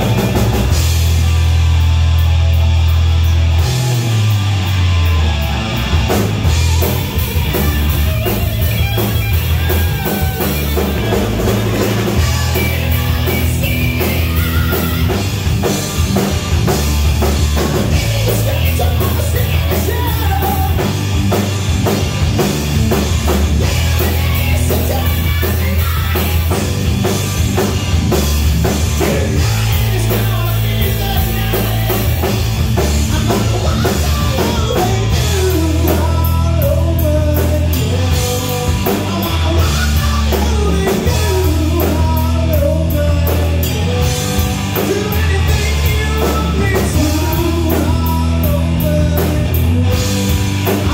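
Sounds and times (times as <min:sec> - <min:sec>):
drum kit: 0:00.0 - 0:50.9
electric bass guitar: 0:00.0 - 0:50.9
electric guitar: 0:00.0 - 0:50.9.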